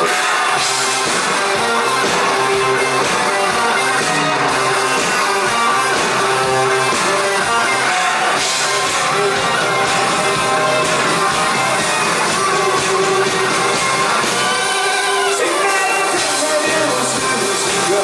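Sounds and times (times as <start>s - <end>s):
live rock band with guitars: 0.0s - 18.0s.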